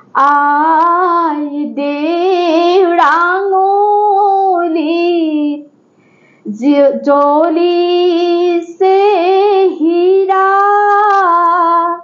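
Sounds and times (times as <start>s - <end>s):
woman singing unaccompanied: 0.0s - 5.8s, 6.5s - 12.0s.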